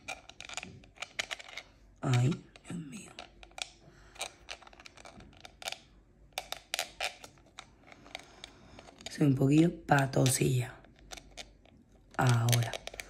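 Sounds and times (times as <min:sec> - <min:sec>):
plastic pieces clicking and tapping: 0:00.0 - 0:13.0.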